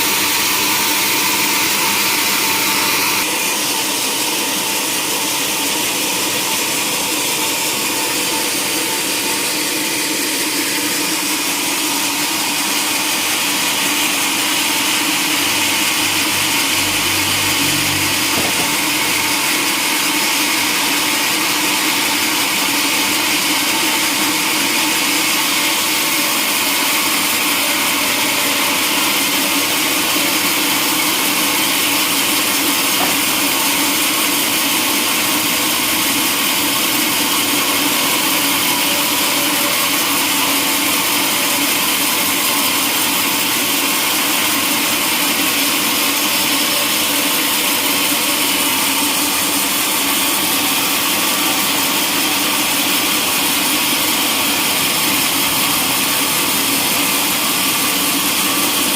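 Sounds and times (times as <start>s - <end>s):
sawmill saw cutting timber: 0.0s - 58.9s.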